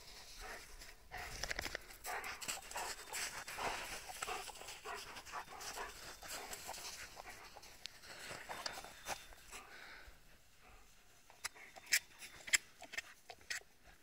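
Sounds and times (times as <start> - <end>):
dog panting: 0.1 - 13.2.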